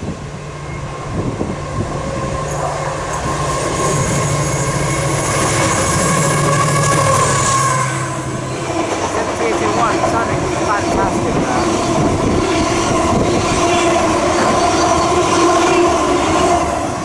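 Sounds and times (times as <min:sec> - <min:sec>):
diesel locomotive engine drone: 0:00.0 - 0:17.0
wheels rumbling on rail: 0:00.0 - 0:17.0.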